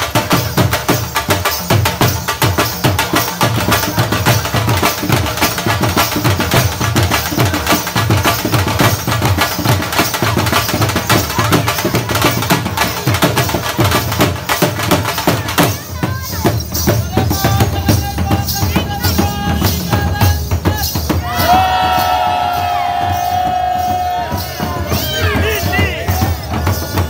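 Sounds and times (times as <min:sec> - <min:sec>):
dhol drums beating fast: 0:00.0 - 0:27.0.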